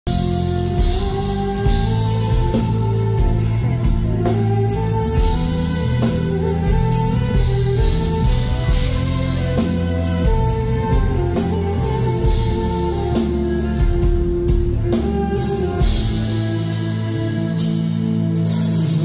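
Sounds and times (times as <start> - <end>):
drum kit beat: 0.0 - 19.0
live pop-rock band: 0.0 - 19.0.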